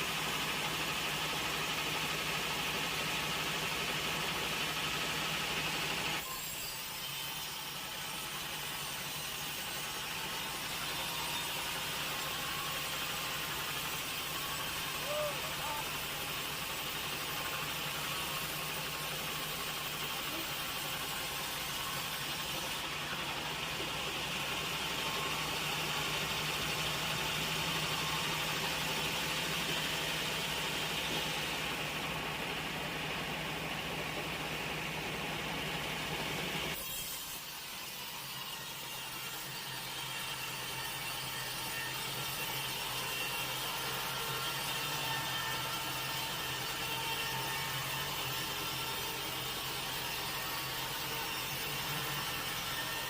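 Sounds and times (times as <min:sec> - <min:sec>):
saw cutting through log: 0:00.0 - 0:53.0
sawmill machinery humming: 0:00.0 - 0:53.0.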